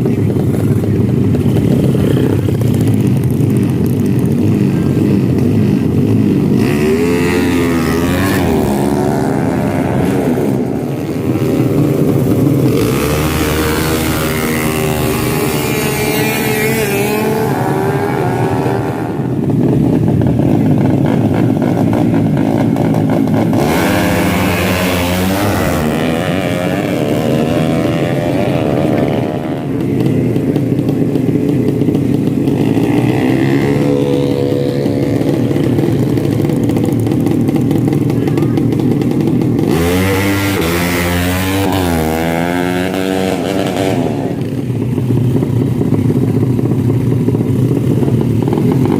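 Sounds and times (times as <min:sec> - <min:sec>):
motorcycle engines revving hard: 0:00.0 - 0:48.9.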